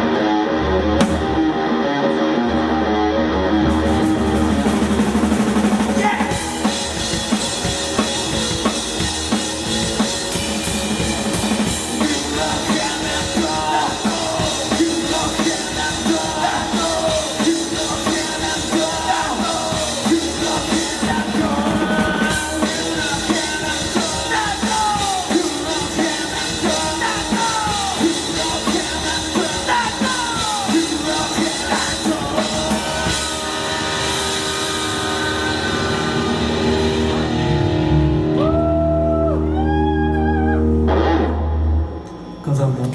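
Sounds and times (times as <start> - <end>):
electric guitar: 0.0 - 42.9
drum kit beat: 3.7 - 38.7.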